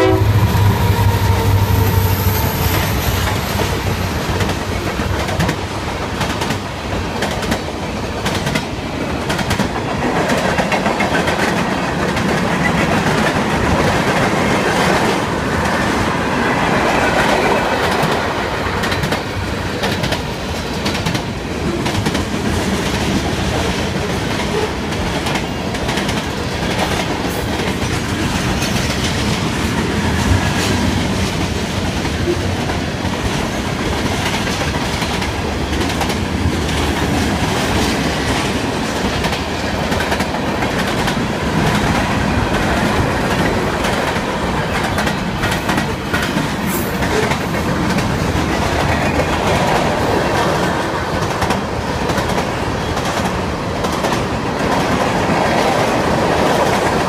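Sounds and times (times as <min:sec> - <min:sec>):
rumble of train wheels on rail: 0:00.0 - 0:57.0
clickety-clack over rail joints: 0:02.0 - 0:57.0.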